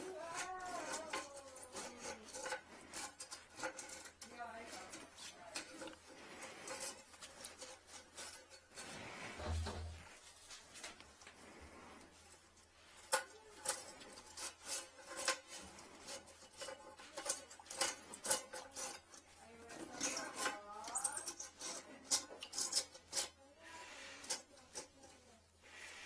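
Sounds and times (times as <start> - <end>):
tool scraping in toilet bowl: 0.0 - 26.0.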